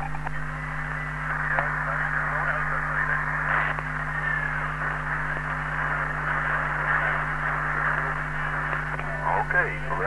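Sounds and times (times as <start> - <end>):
low hum: 0.0 - 10.0
radio static hiss: 0.0 - 10.0.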